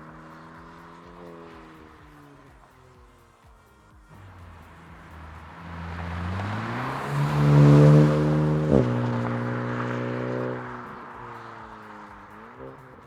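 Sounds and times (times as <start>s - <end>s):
car engine accelerating: 0.0s - 3.4s, 4.0s - 13.0s.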